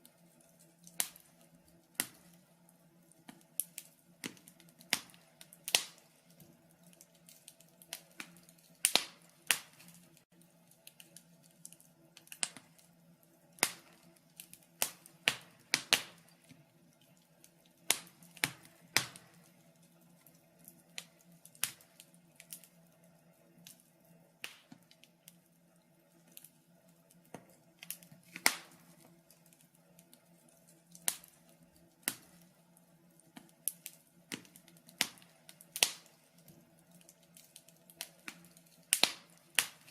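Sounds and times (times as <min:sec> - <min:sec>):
faint steady low hum: 0:00.0 - 0:39.9
wood fire crackling: 0:00.0 - 0:39.9.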